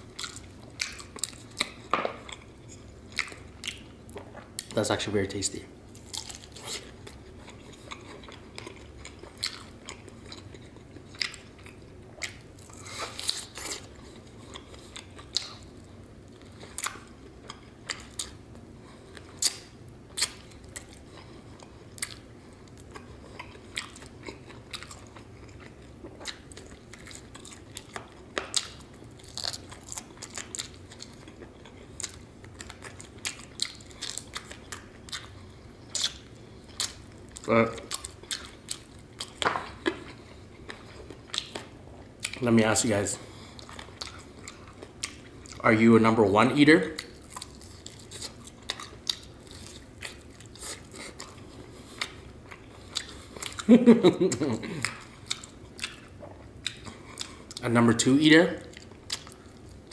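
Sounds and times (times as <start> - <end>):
person chewing: 0.0 - 4.8, 5.9 - 42.4, 43.2 - 45.6, 46.9 - 57.6, 58.6 - 59.9.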